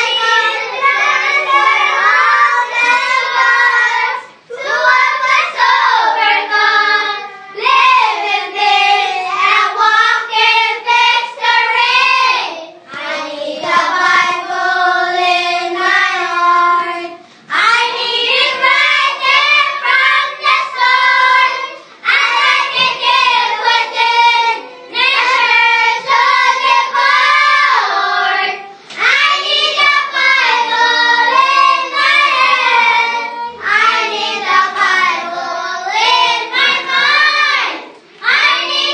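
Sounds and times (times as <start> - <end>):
children singing: 0.0 - 38.9.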